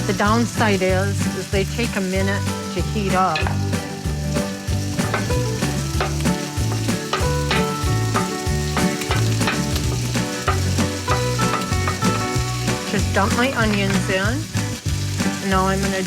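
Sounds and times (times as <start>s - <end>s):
background music with bass line: 0.0s - 16.0s
oil sizzling in frying pan: 0.0s - 16.0s.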